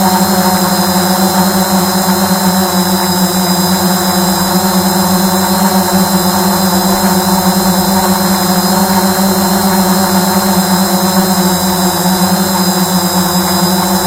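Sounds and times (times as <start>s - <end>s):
drone propellers humming: 0.0s - 14.0s.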